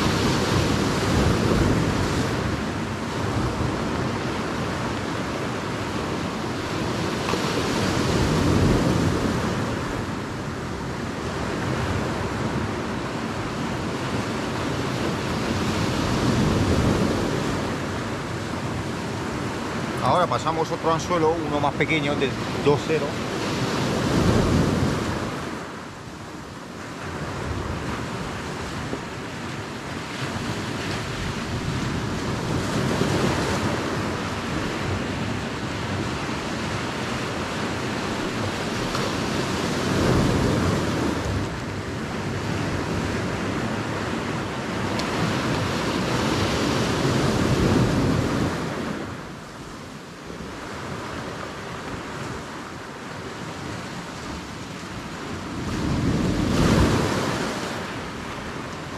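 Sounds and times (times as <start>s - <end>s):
sea waves: 0.0s - 58.9s
wind on microphone: 0.0s - 58.9s.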